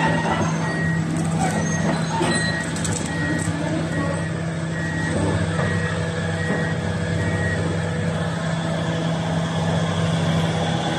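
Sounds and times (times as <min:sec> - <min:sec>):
excavator diesel engine humming: 0:00.0 - 0:10.9.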